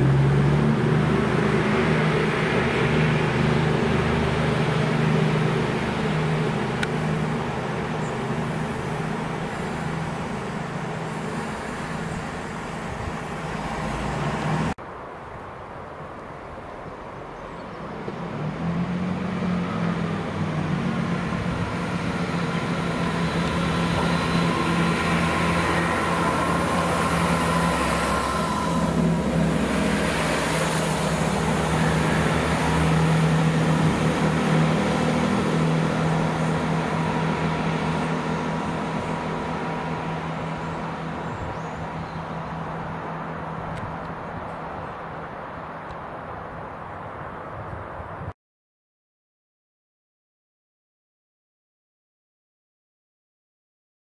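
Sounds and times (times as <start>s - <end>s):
diesel train engines droning: 0.0s - 14.8s, 17.1s - 47.6s
diesel train passing with whine: 0.0s - 48.3s.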